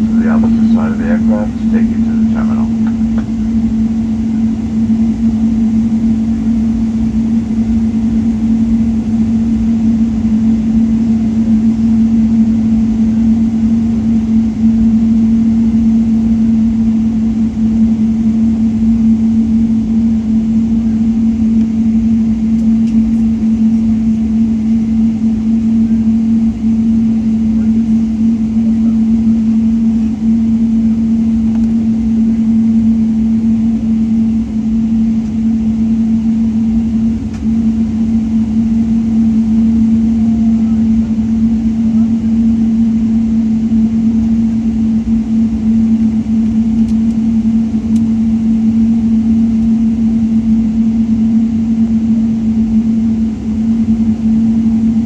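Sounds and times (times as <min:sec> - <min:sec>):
aircraft cabin engine rumble: 0:00.0 - 0:55.0
constant low hum: 0:00.0 - 0:55.0.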